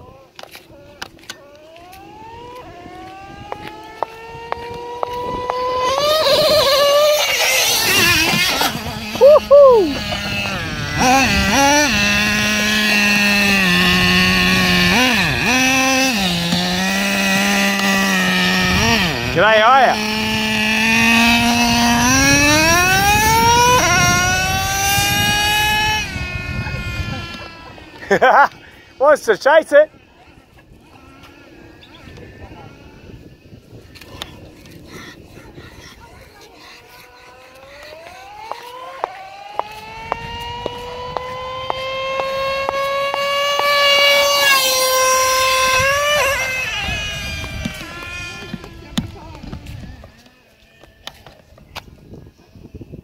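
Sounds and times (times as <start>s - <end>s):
high buzzing rc engine: 0.0s - 53.0s.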